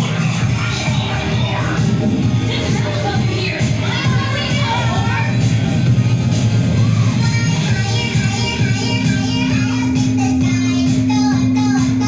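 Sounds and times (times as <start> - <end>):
backing music: 0.0 - 12.0.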